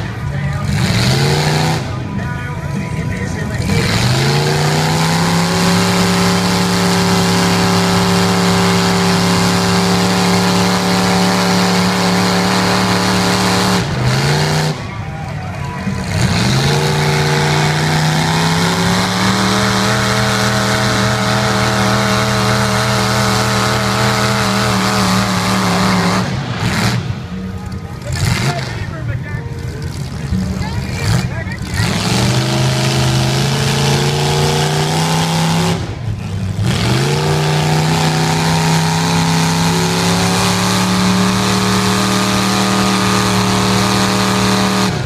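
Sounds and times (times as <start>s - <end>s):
truck engine revving: 0.0s - 45.0s
tyres churning through mud: 0.0s - 45.0s.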